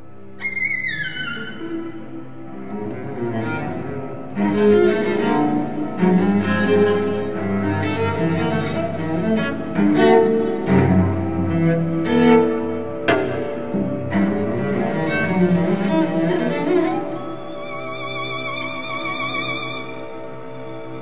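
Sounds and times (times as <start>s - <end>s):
bowed cello held notes: 0.0s - 21.0s.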